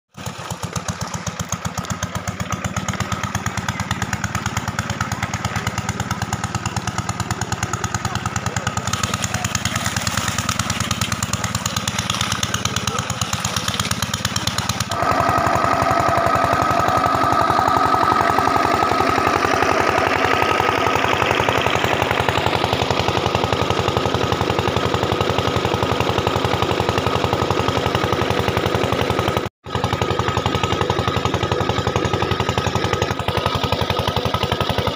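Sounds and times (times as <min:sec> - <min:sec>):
engine-driven water pump chugging: 0:00.1 - 0:34.9.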